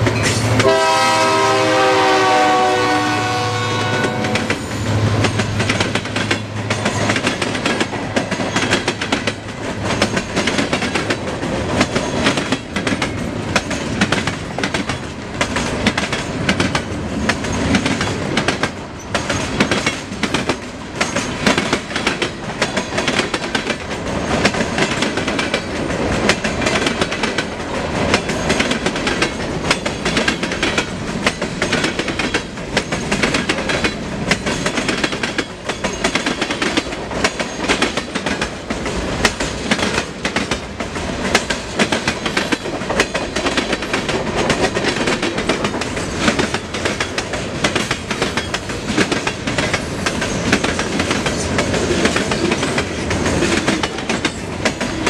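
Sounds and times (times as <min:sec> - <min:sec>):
train rumble: 0:00.0 - 0:55.0
train wheels clacking over rail joints: 0:03.8 - 0:55.0.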